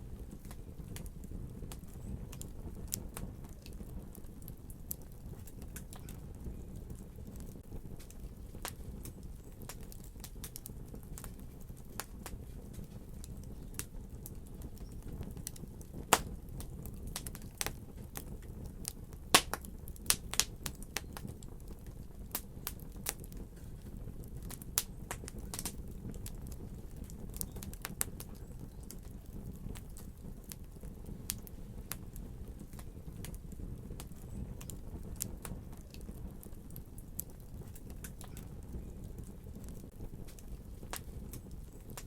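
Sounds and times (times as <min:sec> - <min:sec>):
fire crackling in a fireplace: 0:00.0 - 0:42.0.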